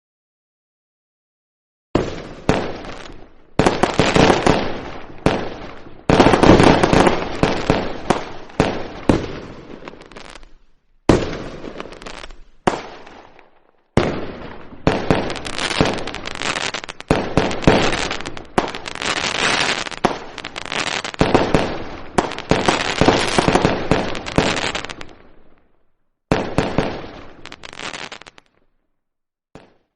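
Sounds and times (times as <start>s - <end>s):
firecrackers cracking and banging: 2.0s - 25.2s, 26.3s - 28.5s.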